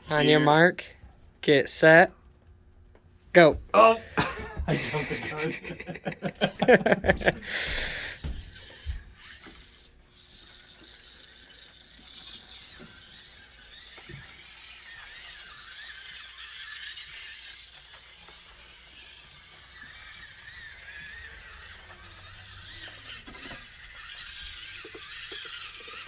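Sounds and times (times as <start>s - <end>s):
small electric motor whining: 3.4s - 26.0s.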